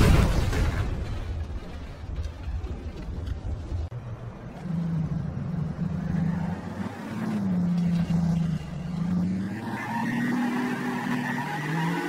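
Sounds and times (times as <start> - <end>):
simulated truck engine drone: 0.7 - 12.0.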